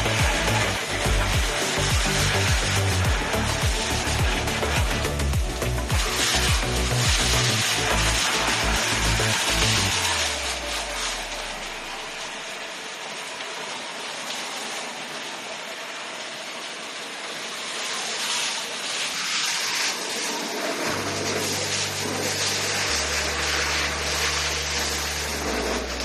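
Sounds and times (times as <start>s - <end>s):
water spray hissing: 0.0s - 26.0s.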